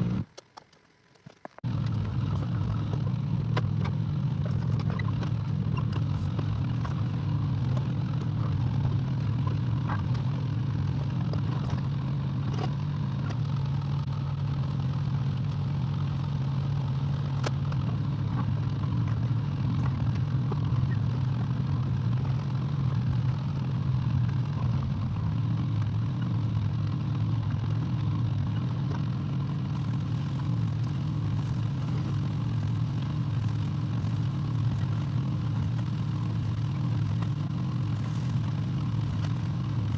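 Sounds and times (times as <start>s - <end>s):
excavator engine running: 0.0s - 0.6s, 1.6s - 39.9s.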